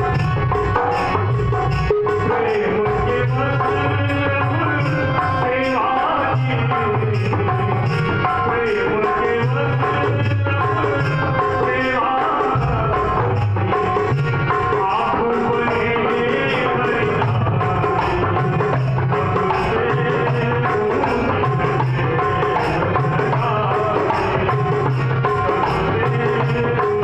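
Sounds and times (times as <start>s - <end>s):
dholak drum beat: 0.0s - 27.0s
harmonium reed notes: 0.0s - 27.0s.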